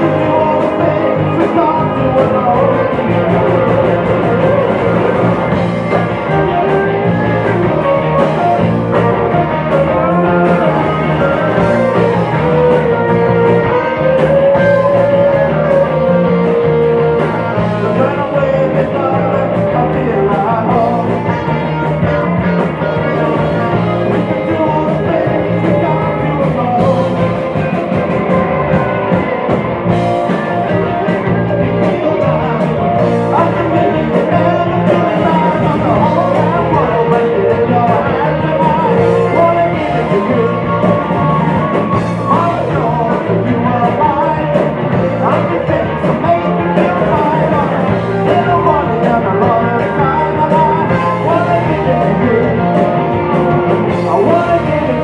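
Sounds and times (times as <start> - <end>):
bass guitar: 0.0 - 55.0
drums keeping a steady beat: 0.0 - 55.0
electric guitar: 0.0 - 55.0
lead vocal singing: 0.0 - 55.0.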